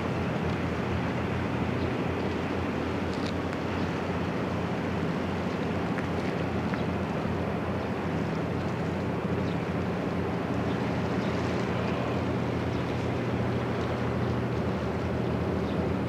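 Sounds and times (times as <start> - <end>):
ship machinery humming: 0.0 - 16.0.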